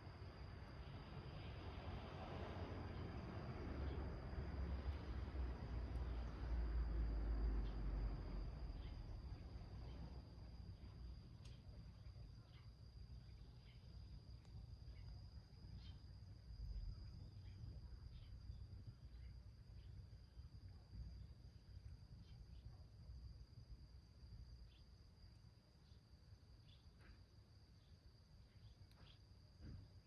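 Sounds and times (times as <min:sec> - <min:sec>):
high-pitched insect trill: 0:00.0 - 0:29.4.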